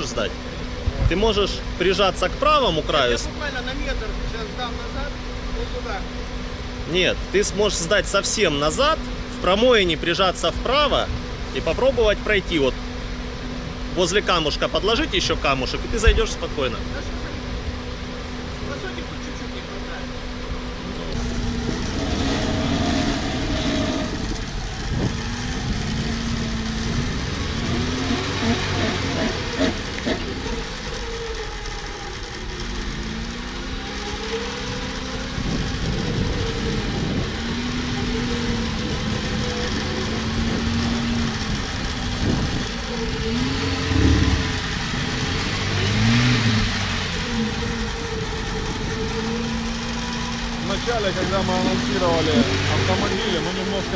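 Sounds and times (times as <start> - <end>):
off-road vehicle engine revving: 0.0 - 53.9.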